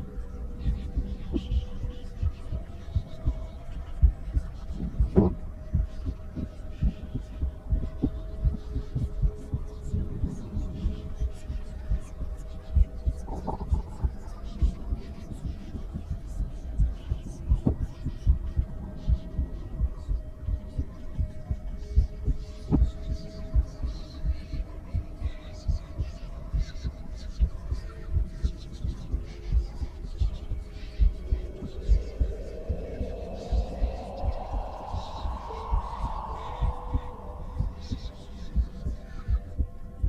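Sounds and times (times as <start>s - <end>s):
faint hum: 0.0s - 40.0s
heartbeat through stethoscope: 0.0s - 40.0s.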